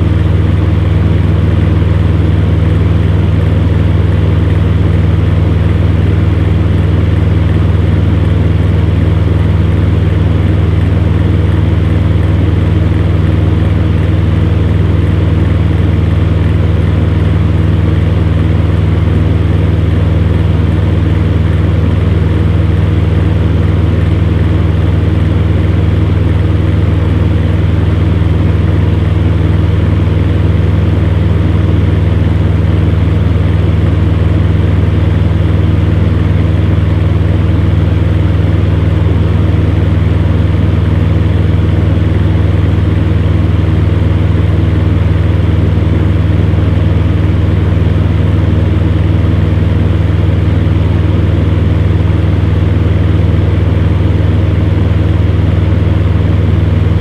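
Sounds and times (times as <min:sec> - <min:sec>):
fan heater humming: 0:00.0 - 0:57.0.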